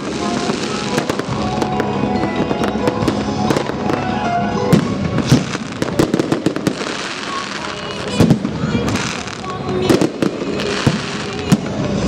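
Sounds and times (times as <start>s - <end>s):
fireworks cracking and banging: 0.0s - 12.0s.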